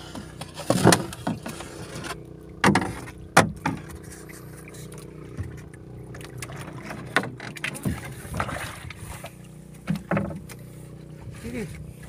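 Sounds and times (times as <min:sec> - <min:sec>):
low hum: 0:00.0 - 0:12.0
paddle splashing and knocking hull: 0:00.0 - 0:12.0.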